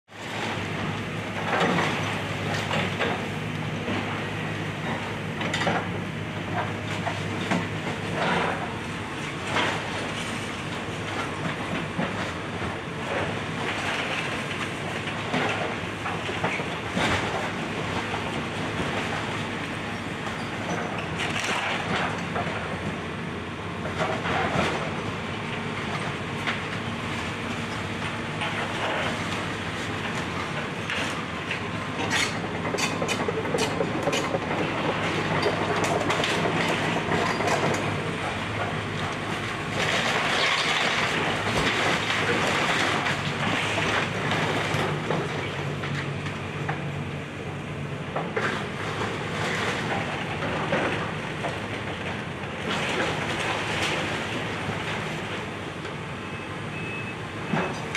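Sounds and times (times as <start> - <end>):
excavator diesel engine running: 0.1 - 57.9.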